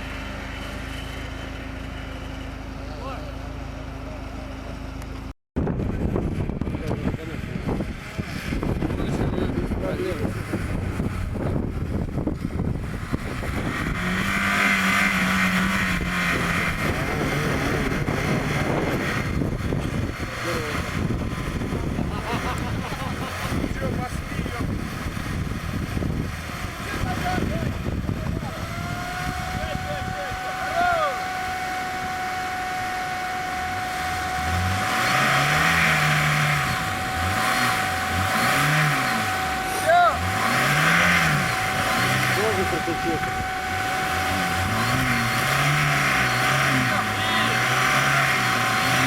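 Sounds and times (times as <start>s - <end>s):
vehicle engine revving hard: 5.9s - 49.0s.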